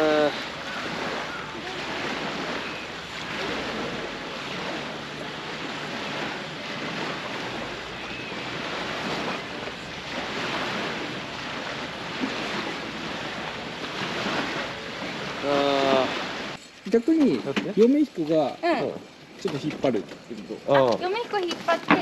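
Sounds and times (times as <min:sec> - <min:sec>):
lake waves washing on shore: 0:00.0 - 0:22.0.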